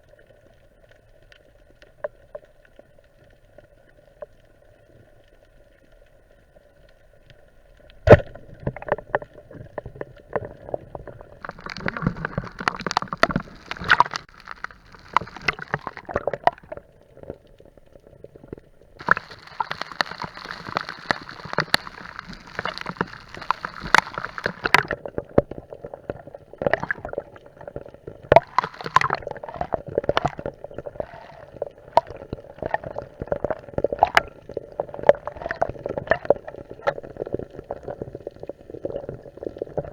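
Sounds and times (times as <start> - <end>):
water bubbling and gurgling: 6.4 - 39.9.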